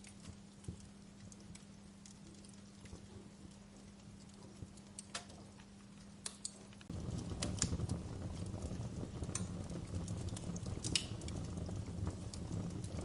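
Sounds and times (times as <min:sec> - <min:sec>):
faint steady hum: 0:00.0 - 0:13.0
fire crackling and popping: 0:00.0 - 0:13.0
low rumble of flames: 0:00.0 - 0:13.0.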